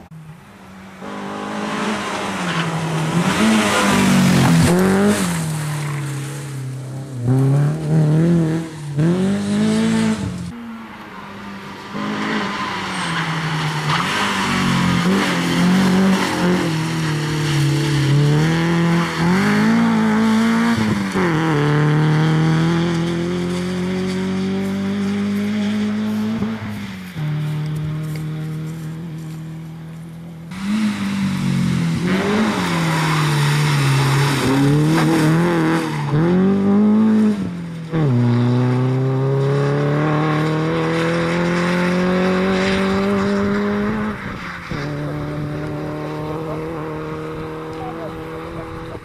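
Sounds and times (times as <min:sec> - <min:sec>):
rally car engine revving: 0:00.9 - 0:10.6, 0:11.8 - 0:49.0.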